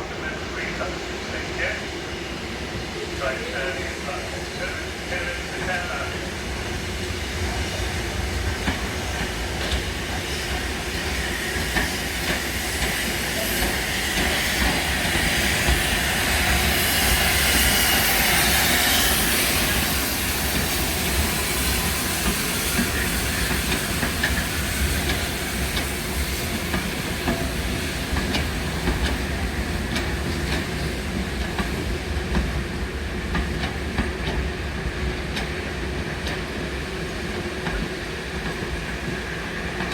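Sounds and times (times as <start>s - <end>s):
train hiss: 0.0s - 39.9s
train rumbling: 0.0s - 39.9s.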